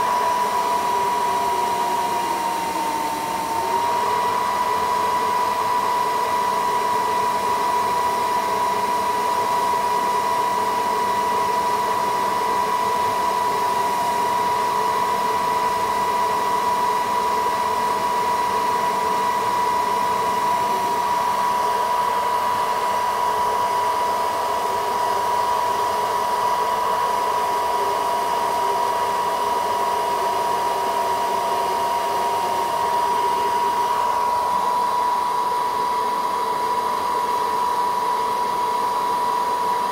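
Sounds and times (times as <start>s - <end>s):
hot-air blower whining: 0.0s - 39.9s.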